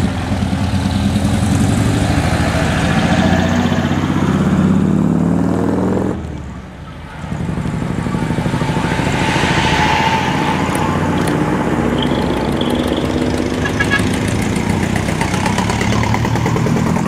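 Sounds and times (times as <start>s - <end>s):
truck diesel engines running: 0.0s - 17.0s.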